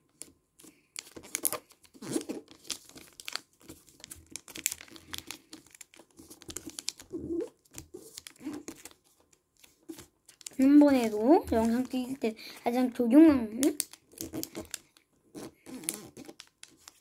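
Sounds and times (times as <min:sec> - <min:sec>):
paper rustling and crinkling: 0:00.0 - 0:12.9, 0:13.6 - 0:17.0.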